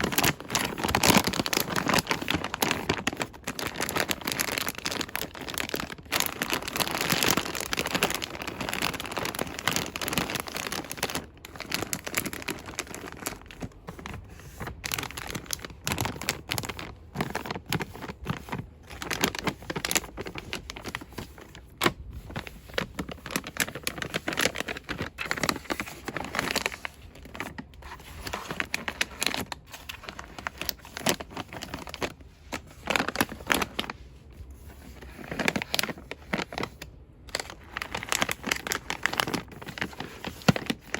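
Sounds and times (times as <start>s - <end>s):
packaging rustling and crinkling: 0.0s - 40.9s.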